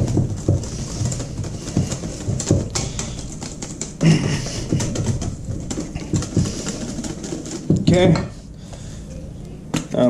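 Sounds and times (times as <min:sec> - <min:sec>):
loud knock: 0:00.0 - 0:08.3.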